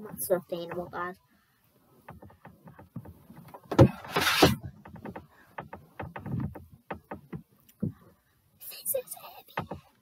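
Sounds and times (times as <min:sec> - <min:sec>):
soft knocks and bumps: 0:00.0 - 0:01.2, 0:01.9 - 0:08.2, 0:09.2 - 0:10.0.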